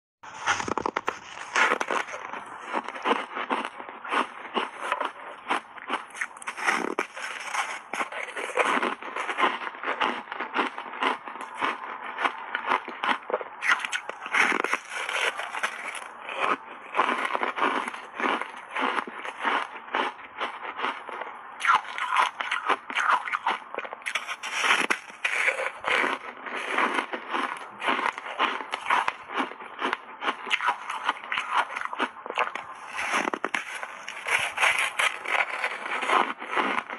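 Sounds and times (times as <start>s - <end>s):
ice being chewed with crunches: 0.3s - 36.9s.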